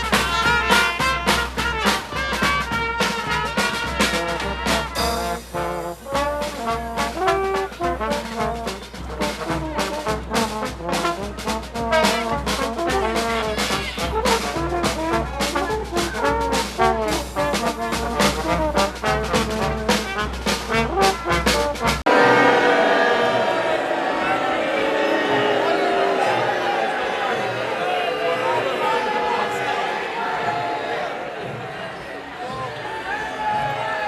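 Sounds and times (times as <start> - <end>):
brass band playing a tune: 0.0 - 27.4
drum beats: 0.0 - 27.7, 29.1 - 34.0.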